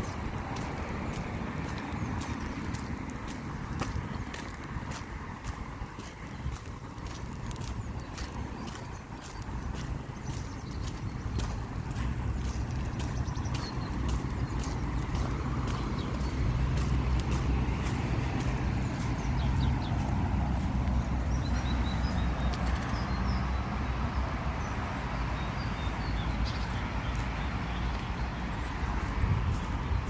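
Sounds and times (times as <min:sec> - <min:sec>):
small birds chirping: 0:00.0 - 0:30.0
vehicle engine rumble: 0:00.0 - 0:30.0.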